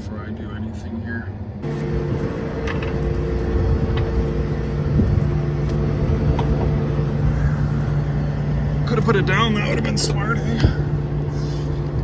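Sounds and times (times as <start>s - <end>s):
combine machine hum: 1.6s - 12.0s.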